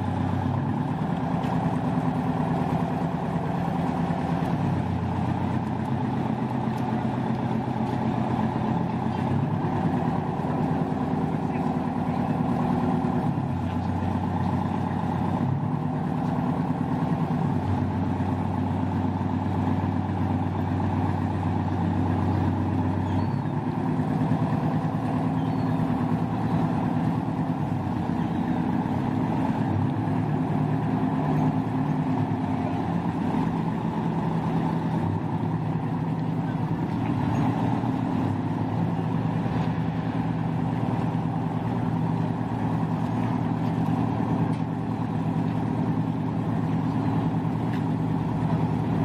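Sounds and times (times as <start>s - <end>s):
boat engines humming: 0.0s - 49.0s.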